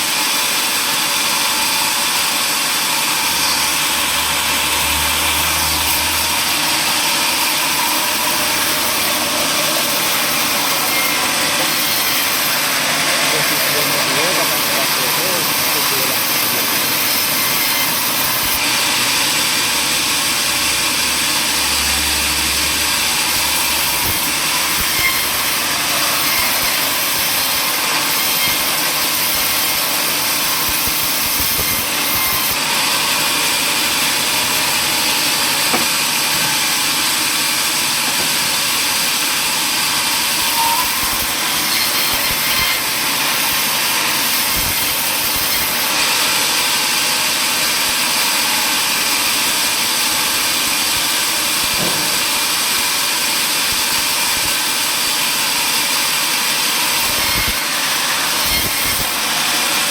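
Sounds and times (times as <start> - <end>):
power saw running: 0.0 - 59.9
saw blade cutting wood: 0.0 - 59.9.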